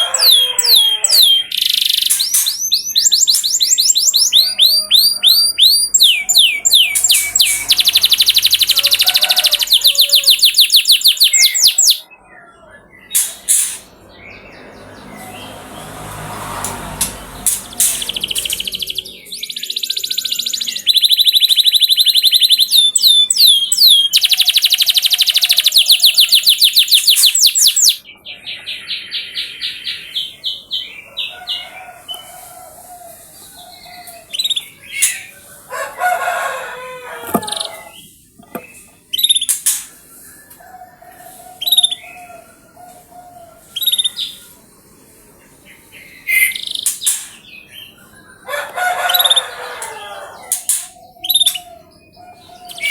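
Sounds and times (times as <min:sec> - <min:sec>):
canary chirps: 0:00.0 - 0:52.9
canary singing trills: 0:00.0 - 0:52.9.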